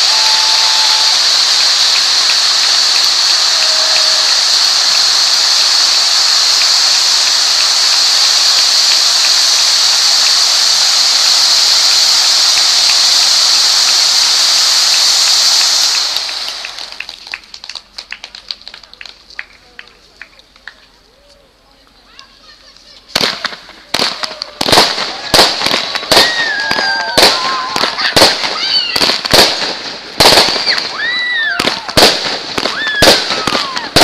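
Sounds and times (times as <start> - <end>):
spark fountains hissing: 0.0 - 17.9, 23.2 - 34.0
crackle of sparks: 0.0 - 20.8, 23.0 - 34.0.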